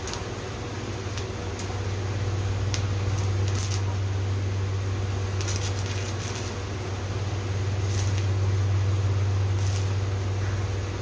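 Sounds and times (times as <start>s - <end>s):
welding arc crackling: 0.0s - 11.0s
welding machine hum: 0.0s - 11.0s.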